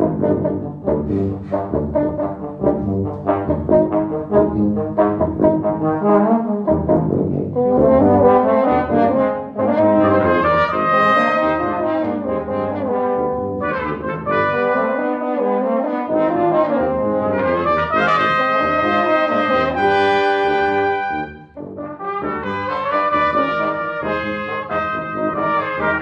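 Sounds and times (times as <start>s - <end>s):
brass quintet playing a tango: 0.0s - 26.0s.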